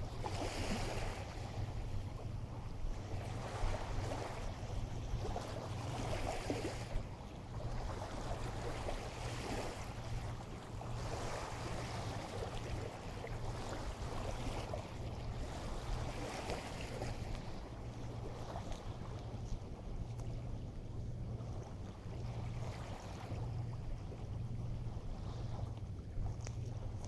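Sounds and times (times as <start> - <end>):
small waves washing: 0.0 - 27.0
steady low rumble: 0.0 - 27.0.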